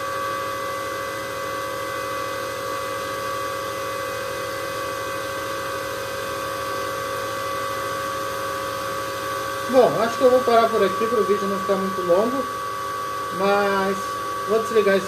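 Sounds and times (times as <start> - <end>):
constant fan whine: 0.0 - 15.0
cooling fans rushing air: 0.0 - 15.0.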